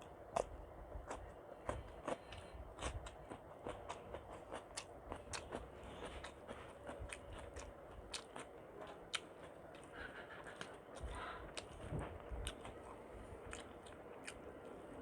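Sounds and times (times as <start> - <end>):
chewing mouth clicks and smacks: 0.0 - 14.8.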